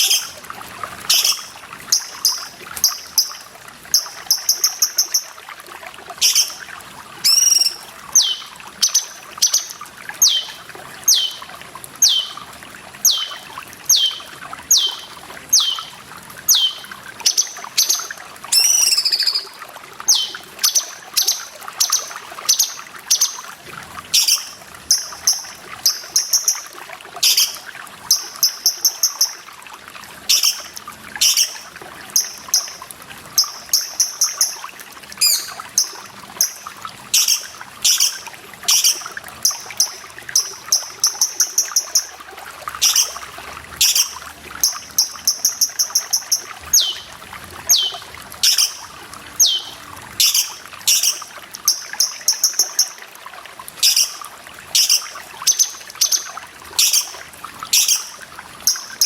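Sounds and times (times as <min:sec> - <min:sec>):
bird calls and buzzy trills: 0:00.0 - 0:05.5, 0:06.2 - 0:29.6, 0:30.2 - 0:53.1, 0:53.7 - 0:59.0
trickle of running water: 0:00.0 - 0:59.0.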